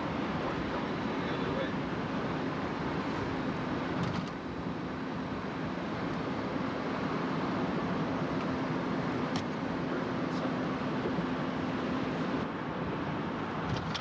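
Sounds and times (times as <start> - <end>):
road and wind noise inside car: 0.0 - 14.0.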